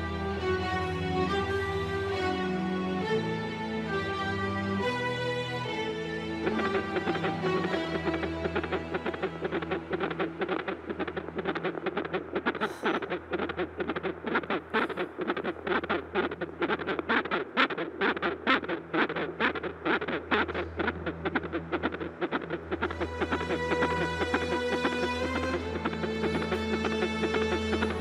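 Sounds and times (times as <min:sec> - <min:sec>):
background music: 0:00.0 - 0:15.2, 0:17.4 - 0:28.0.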